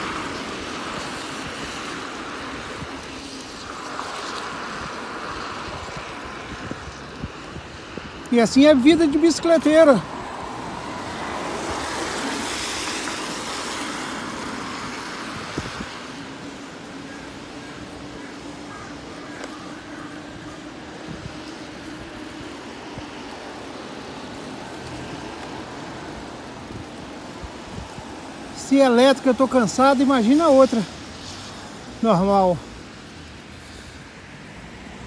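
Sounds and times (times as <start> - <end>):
faint bike motor hum: 0.0 - 35.0
hiss of wet tyres: 0.0 - 35.0
wind: 0.0 - 35.0.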